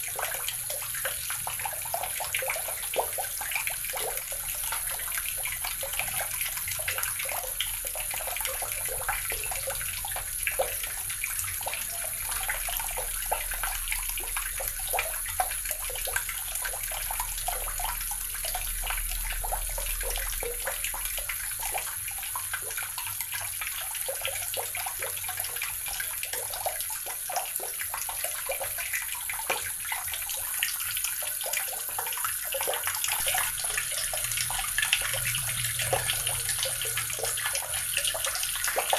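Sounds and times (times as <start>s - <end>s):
tap water running into basin: 0.0s - 38.9s.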